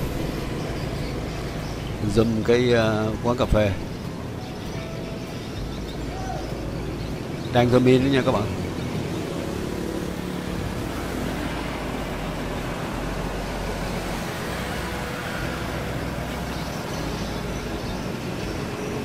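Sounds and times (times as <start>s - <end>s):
cars passing: 0.0s - 19.0s
motorbikes passing: 0.0s - 19.0s.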